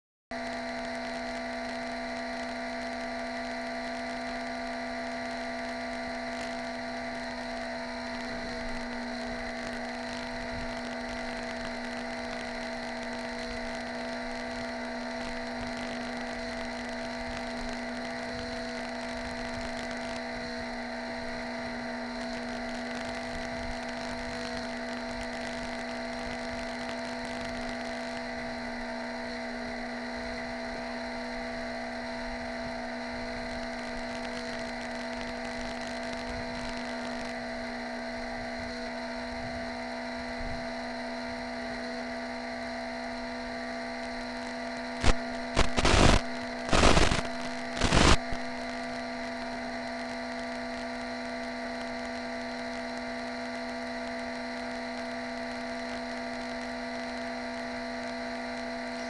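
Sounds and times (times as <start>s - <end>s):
electrical hum and hiss: 0.4s - 59.0s.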